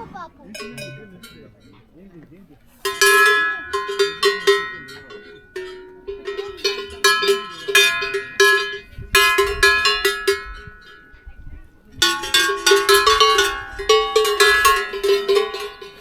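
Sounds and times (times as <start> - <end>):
cowbell clanking: 0.0 - 16.0.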